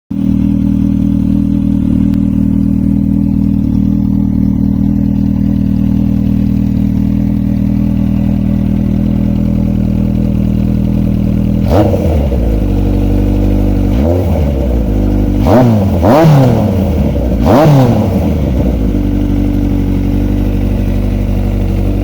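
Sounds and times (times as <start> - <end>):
motorcycle engine idling: 0.1 - 22.0.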